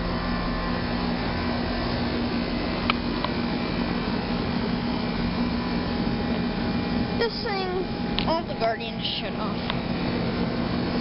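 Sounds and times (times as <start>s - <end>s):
air conditioner compressor hum: 0.0s - 11.0s
condenser fan rushing: 0.0s - 11.0s.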